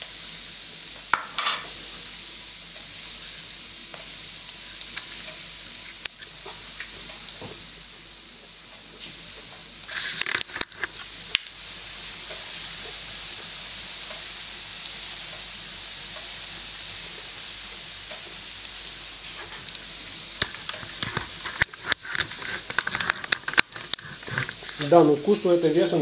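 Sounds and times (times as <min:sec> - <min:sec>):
mushrooms sizzling in oil: 0:00.0 - 0:26.0.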